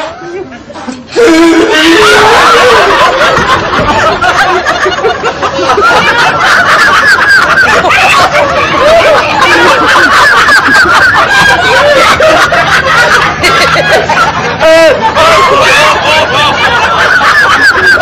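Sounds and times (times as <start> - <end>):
many people laughing: 0.0 - 18.0.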